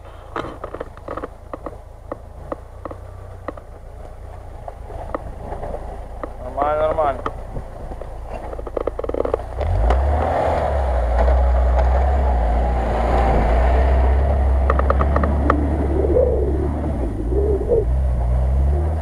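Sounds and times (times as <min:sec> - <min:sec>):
car engine rumbling under load: 0:00.0 - 0:19.0.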